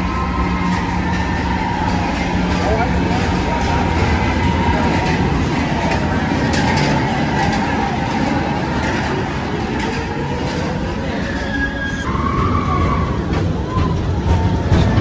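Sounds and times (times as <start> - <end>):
ride train rumbling on track: 0.0 - 15.0.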